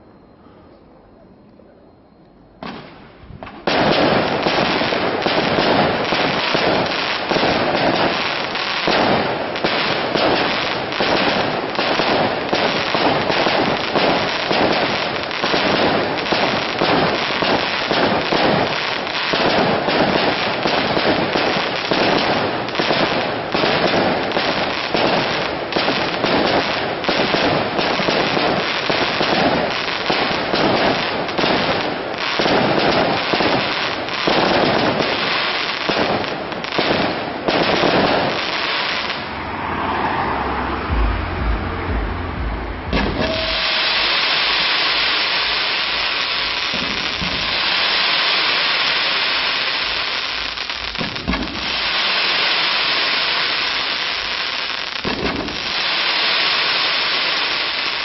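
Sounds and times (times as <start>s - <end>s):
fireworks bursting and crackling: 2.6s - 39.6s, 40.8s - 58.0s.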